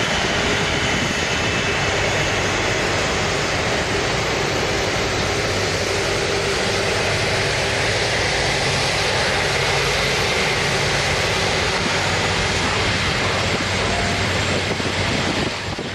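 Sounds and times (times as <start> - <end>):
jet engine roar with whine: 0.0 - 15.9.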